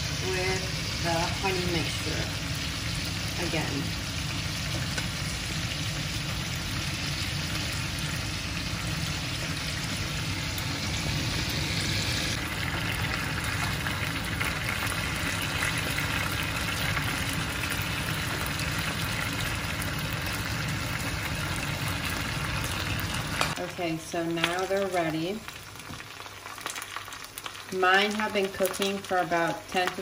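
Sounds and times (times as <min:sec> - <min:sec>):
chicken sizzling in a grill pan: 0:00.0 - 0:30.0.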